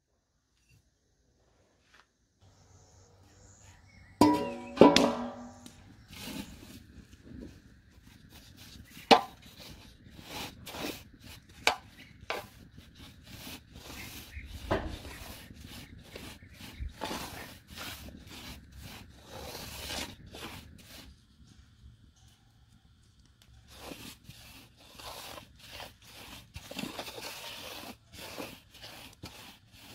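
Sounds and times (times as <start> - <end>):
wooden spoon scraping flour in pan: 3.4 - 21.5, 23.6 - 29.9.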